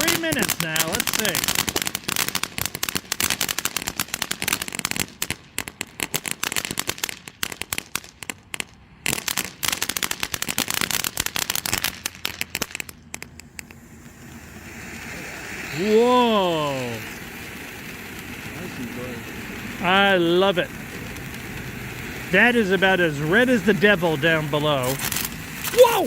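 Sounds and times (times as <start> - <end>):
hiss of sparks: 0.0 - 8.2, 9.1 - 26.0
firework crackling and popping: 0.0 - 26.0.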